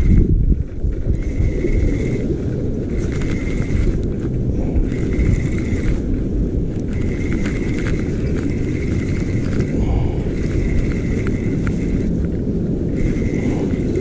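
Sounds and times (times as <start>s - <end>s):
rapid clicking: 0.0s - 14.0s
wind buffeting microphone: 0.0s - 14.0s.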